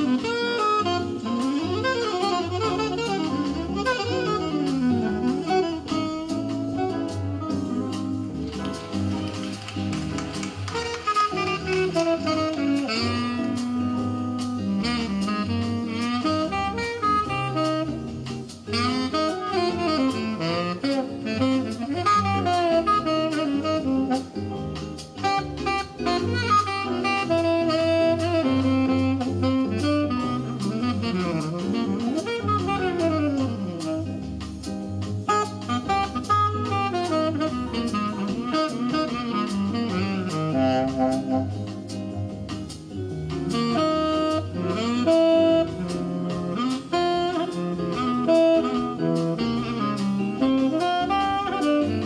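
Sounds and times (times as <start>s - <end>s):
bass: 0.0s - 52.0s
drums: 0.0s - 52.0s
saxophone melody: 0.0s - 52.0s.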